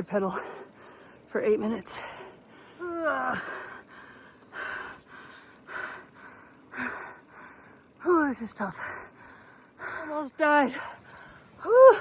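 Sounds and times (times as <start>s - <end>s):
woman breathing heavily: 0.2s - 8.1s, 8.7s - 12.0s.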